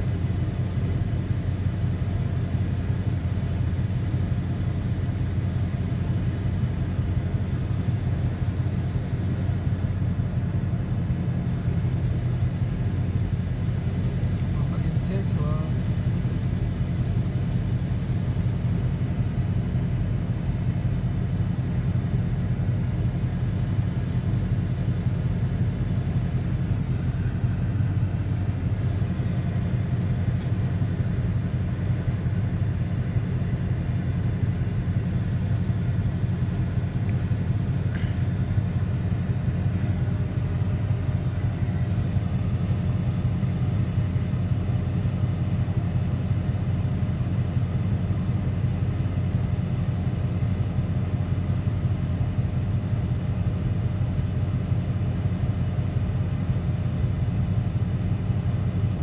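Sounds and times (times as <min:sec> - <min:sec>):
low vehicle rumble: 0:00.0 - 0:59.0.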